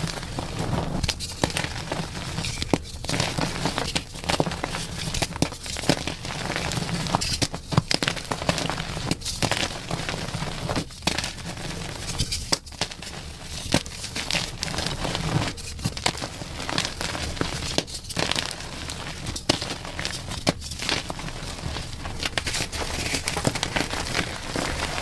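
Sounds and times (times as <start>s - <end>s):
chalk being crushed: 0.0s - 25.0s.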